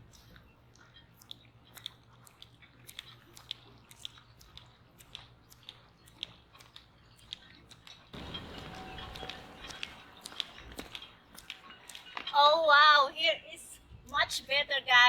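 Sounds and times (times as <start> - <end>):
footsteps clicking: 0.0 - 12.4.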